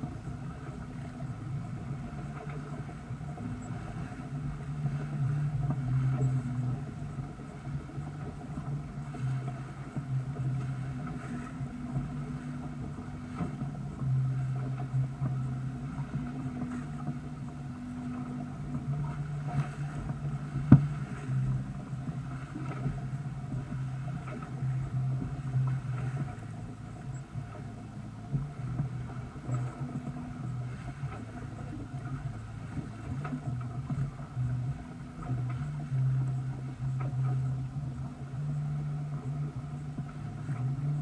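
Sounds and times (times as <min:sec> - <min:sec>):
steady low hum: 0:00.0 - 0:41.0
water splashing along hull: 0:00.0 - 0:41.0.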